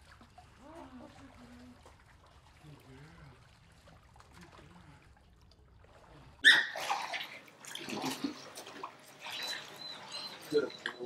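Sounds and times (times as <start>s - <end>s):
pool water splashing: 0.0s - 11.0s.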